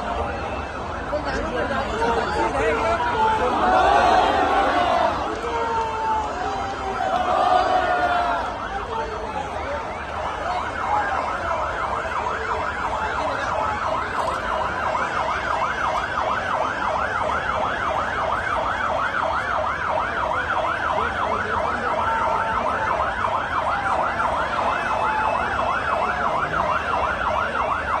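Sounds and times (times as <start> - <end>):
fire engine sirens yelping: 0.0 - 28.0.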